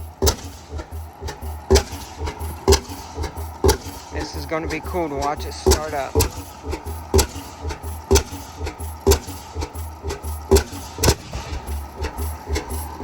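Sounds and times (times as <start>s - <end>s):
engine low rumble: 0.0s - 13.0s
gas engine exhaust pops: 0.0s - 13.0s.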